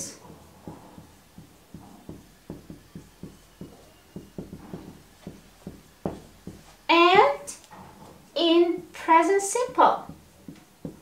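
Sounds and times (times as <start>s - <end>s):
marker writing on a whiteboard: 0.0s - 11.0s.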